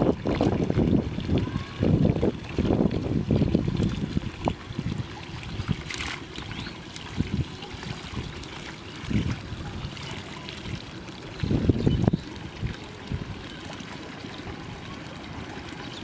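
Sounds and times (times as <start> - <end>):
muddy water splashing: 0.0 - 16.0
water pouring through mesh: 0.0 - 16.0.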